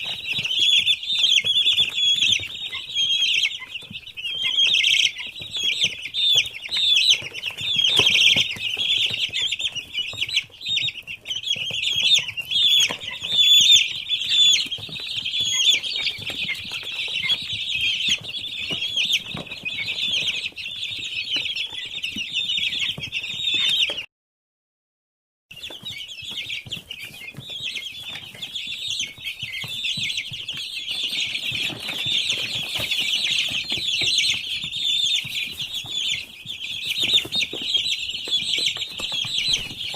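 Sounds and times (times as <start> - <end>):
chicks peeping: 0.0 - 24.1, 25.5 - 39.9.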